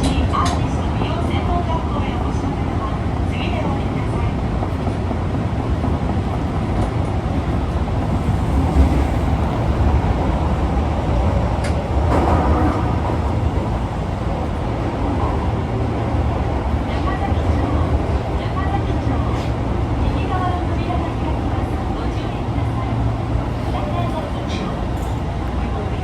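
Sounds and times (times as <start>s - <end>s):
subway car rumbling: 0.0s - 26.0s.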